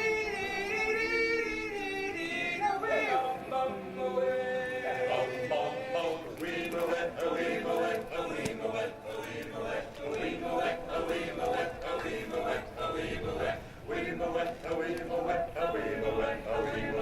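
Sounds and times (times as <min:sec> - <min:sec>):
a cappella chorus singing: 0:00.0 - 0:17.0.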